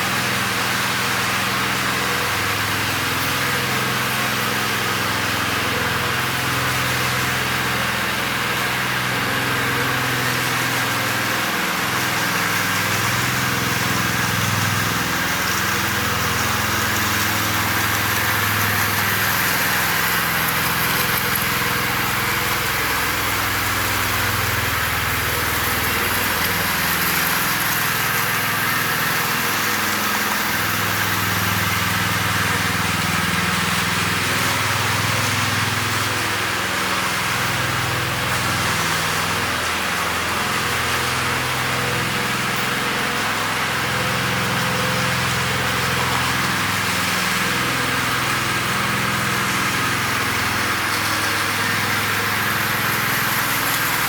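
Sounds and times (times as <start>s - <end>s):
small petrol engine running: 0.0s - 54.0s.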